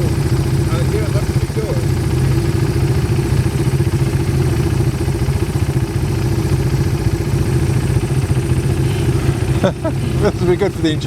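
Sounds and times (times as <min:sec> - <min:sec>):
quad bike engine idling: 0:00.0 - 0:11.0.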